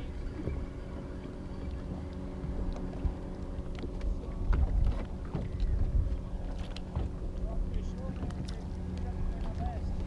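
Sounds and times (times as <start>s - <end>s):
steady low hum: 0.0s - 10.0s
wind rumbling on microphone: 0.0s - 10.0s.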